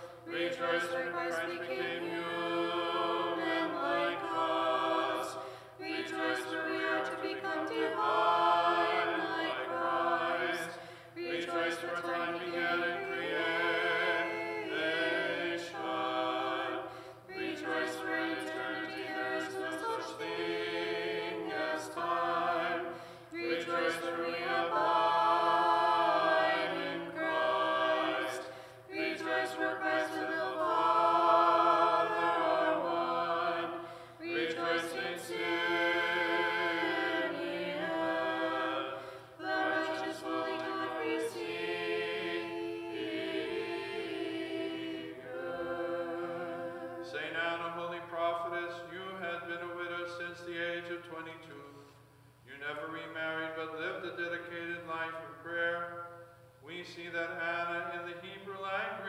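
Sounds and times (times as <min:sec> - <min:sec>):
choir singing a cappella: 0:00.0 - 0:51.6, 0:52.5 - 0:59.0.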